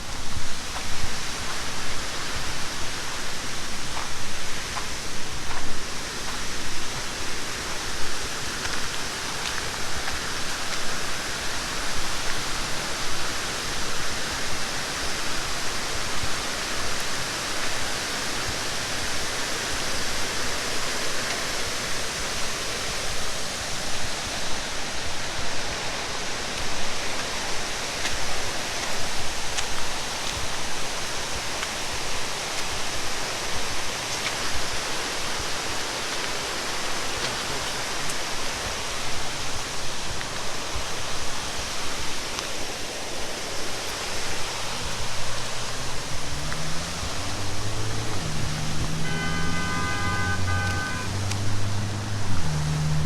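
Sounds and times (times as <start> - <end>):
falling water rushing: 0.0 - 53.0.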